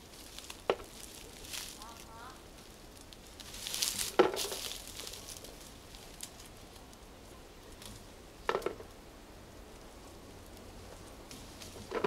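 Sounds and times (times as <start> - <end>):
leaves and twigs rustling: 0.0 - 12.0.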